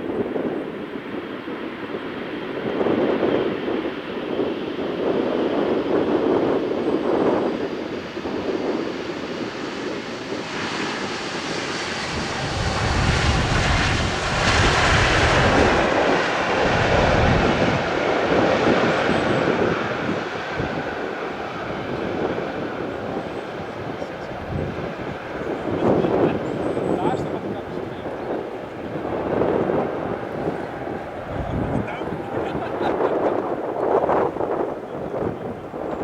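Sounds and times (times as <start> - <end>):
jet engine noise: 0.0 - 36.0.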